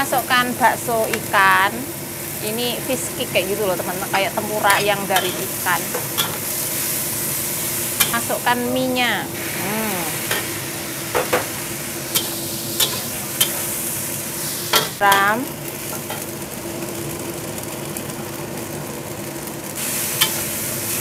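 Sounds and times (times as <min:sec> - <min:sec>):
food sizzling in oil in a wok: 0:00.0 - 0:21.0.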